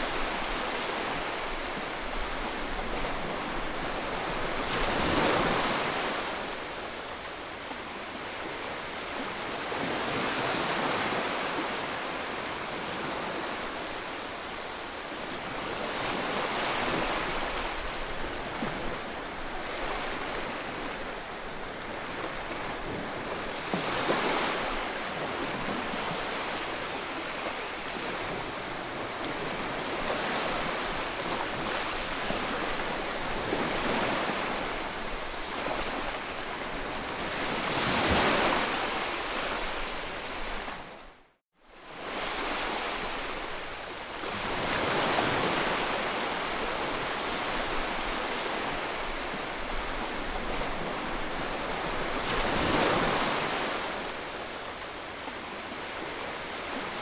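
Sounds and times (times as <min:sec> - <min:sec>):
sea waves breaking on shore: 0:00.0 - 0:57.0.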